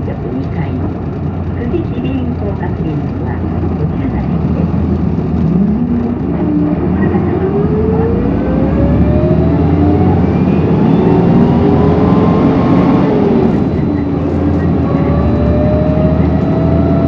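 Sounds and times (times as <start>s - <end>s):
bus engine and road drone: 0.0s - 17.0s
rising mechanical whine: 0.0s - 17.0s.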